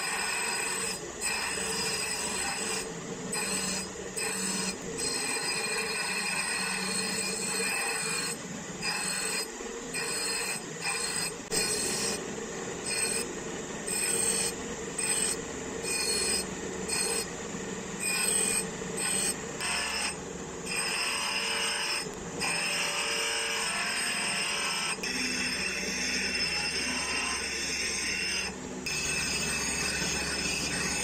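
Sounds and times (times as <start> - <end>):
file rasping on steel with squeal: 0.0 - 12.2, 12.8 - 13.3, 13.9 - 17.3, 18.0 - 31.0.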